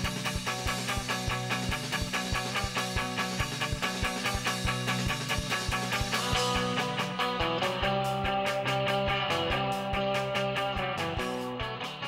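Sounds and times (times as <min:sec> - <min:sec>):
instrumental music with quick beat: 0:00.0 - 0:12.0.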